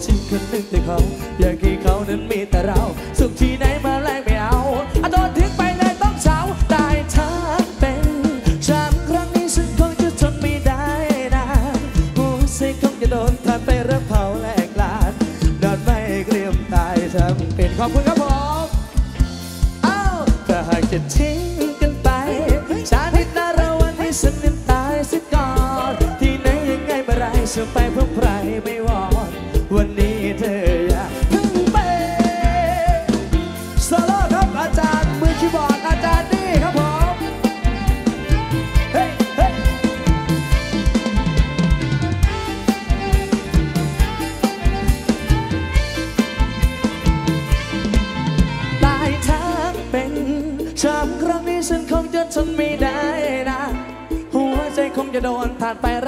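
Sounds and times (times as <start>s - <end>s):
person singing: 0.0s - 46.5s, 48.4s - 56.0s
bass line: 0.0s - 56.0s
drum kit beat: 0.0s - 56.0s
live band music: 0.0s - 56.0s.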